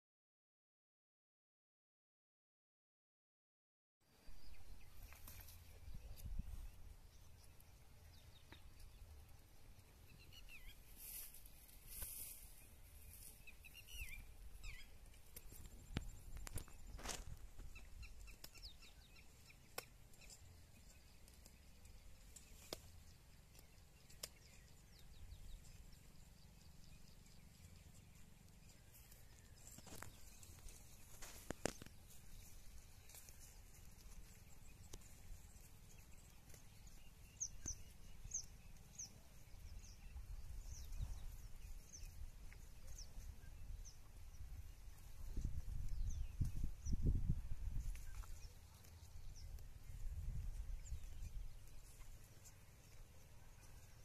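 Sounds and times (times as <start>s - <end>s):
cow cropping dry grass: 8.4s - 39.7s, 40.5s - 54.0s
bird chirping: 10.0s - 54.0s.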